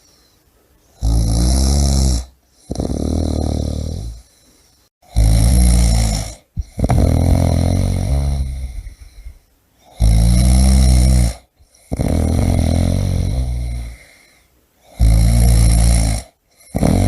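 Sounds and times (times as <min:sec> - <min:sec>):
person snoring: 0:01.0 - 0:04.3, 0:05.0 - 0:17.0.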